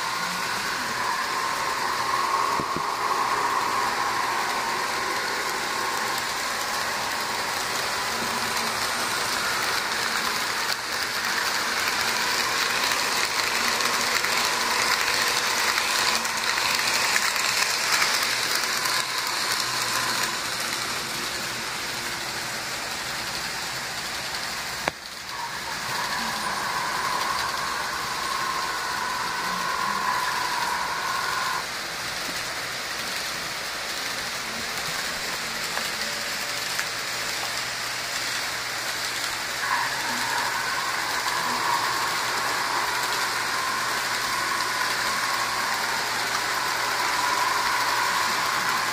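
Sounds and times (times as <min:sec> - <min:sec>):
model trains whirring and clattering: 0:00.0 - 0:48.9.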